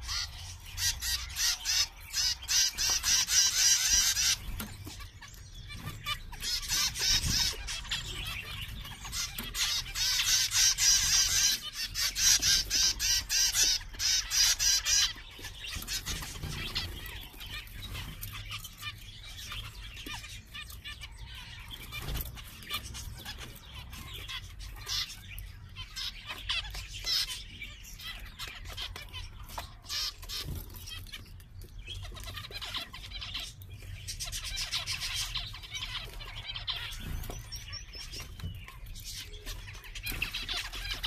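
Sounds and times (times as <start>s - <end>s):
finches chattering and singing: 0.0s - 41.0s.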